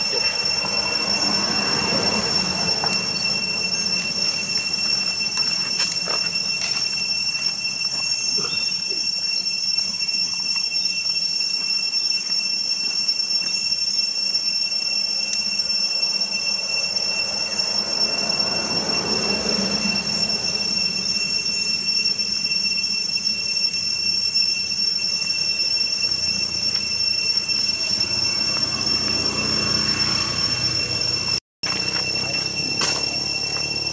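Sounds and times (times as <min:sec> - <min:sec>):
high-pitched insect drone: 0:00.0 - 0:33.9.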